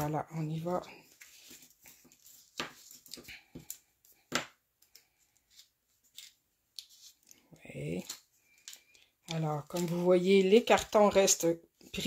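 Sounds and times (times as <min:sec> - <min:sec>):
paper rustling: 0:00.6 - 0:11.3.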